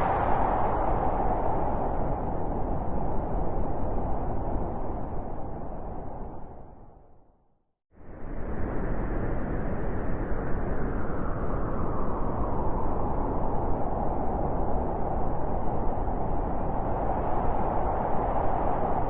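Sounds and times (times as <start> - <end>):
high rushing wind: 0.0 - 7.1, 8.0 - 19.0
blizzard wind: 0.0 - 7.4, 8.0 - 19.0.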